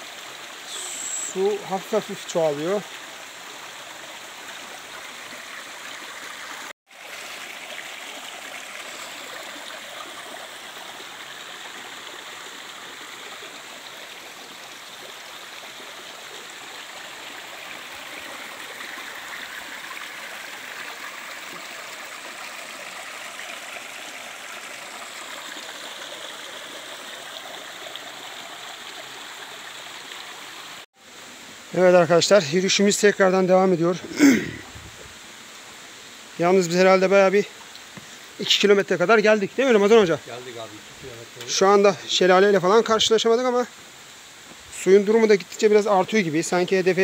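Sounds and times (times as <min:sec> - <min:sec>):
creek trickling over rocks: 0:00.0 - 0:47.0.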